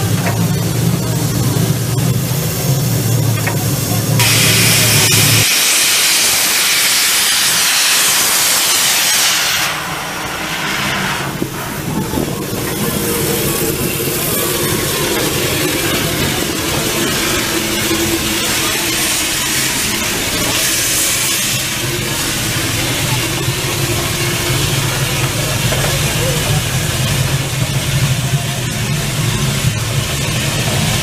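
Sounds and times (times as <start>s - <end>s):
steam locomotive hissing steam: 0.0s - 31.0s.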